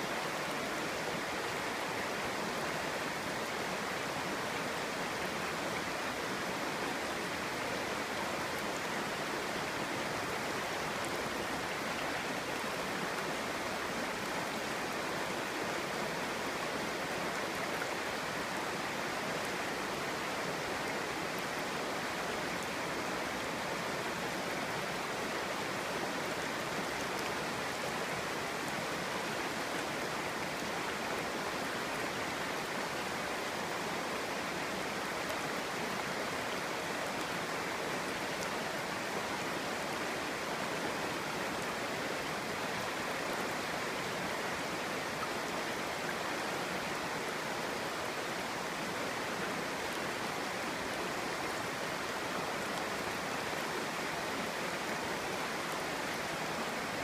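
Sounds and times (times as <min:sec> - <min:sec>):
stream burbling over stones: 0:00.0 - 0:57.0.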